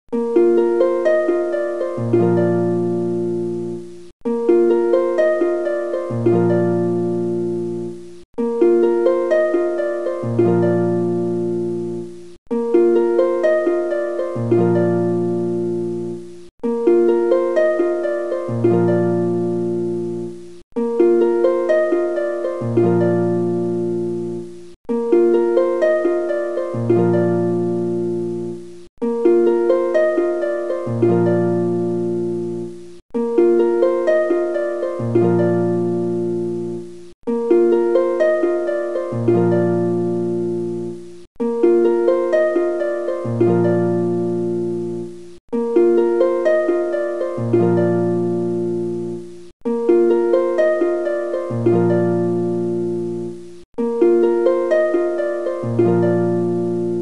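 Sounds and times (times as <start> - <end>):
looped plucked notes over bass: 0.2 - 57.0.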